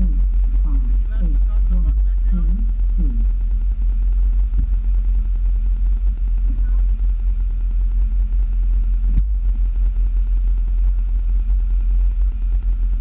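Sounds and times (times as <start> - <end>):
van engine droning: 0.0 - 13.0.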